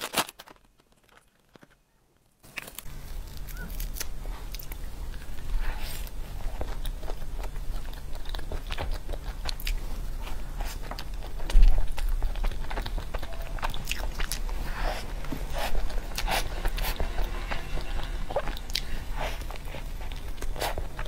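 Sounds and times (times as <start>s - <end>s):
wet chewing with crunches: 2.4s - 21.0s.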